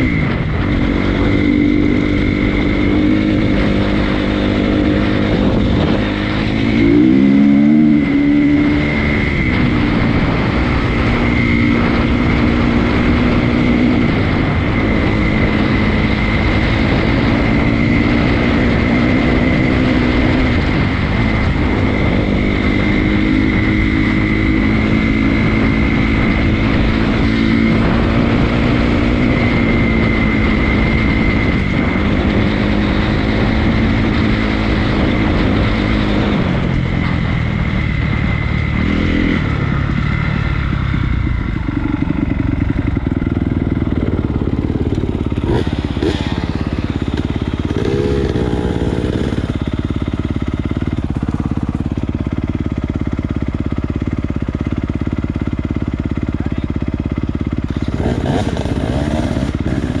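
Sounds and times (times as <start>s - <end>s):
wind rush on microphone: 0.0s - 56.6s, 57.4s - 60.0s
dirt bike engine: 0.0s - 60.0s.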